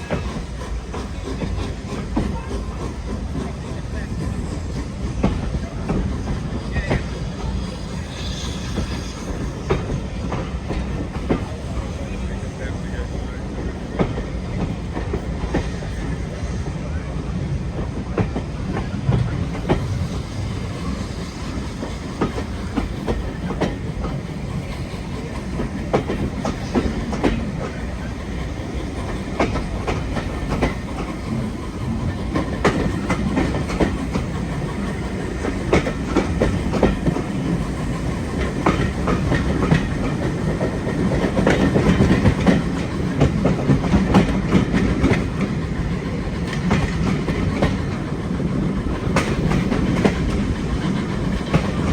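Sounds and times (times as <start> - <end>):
train rumbling: 0.0 - 51.9.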